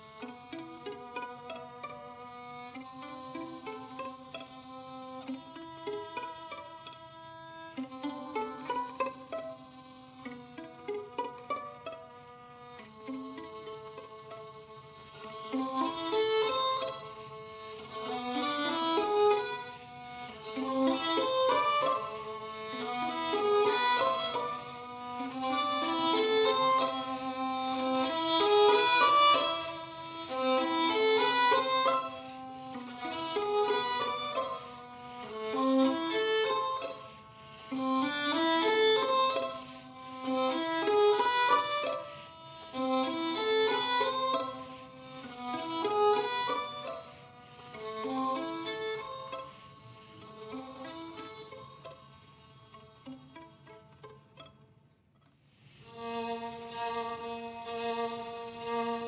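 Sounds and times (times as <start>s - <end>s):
violin melody: 0.0s - 59.0s.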